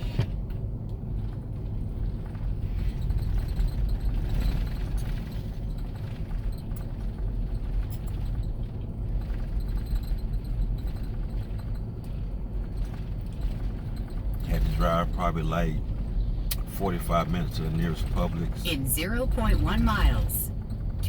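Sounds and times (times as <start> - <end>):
car tyres and engine rumble: 0.0 - 21.0
faint rattles: 0.4 - 21.0.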